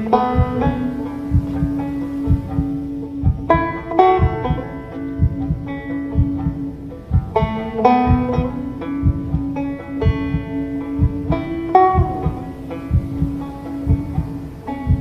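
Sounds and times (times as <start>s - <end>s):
held drone tone: 0.0s - 15.0s
low regular beat: 0.0s - 15.0s
slow banjo music: 0.0s - 15.0s.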